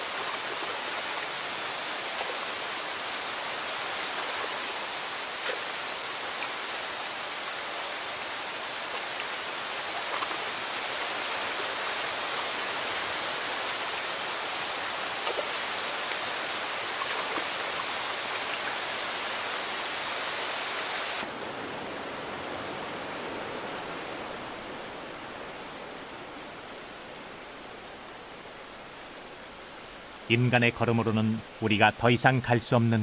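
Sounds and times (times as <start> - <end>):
flowing water: 0.0 - 32.6
waterfall rushing: 0.0 - 33.0.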